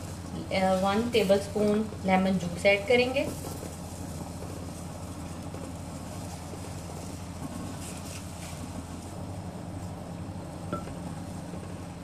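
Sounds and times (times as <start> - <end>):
syrup boiling in a pot: 0.0 - 12.0.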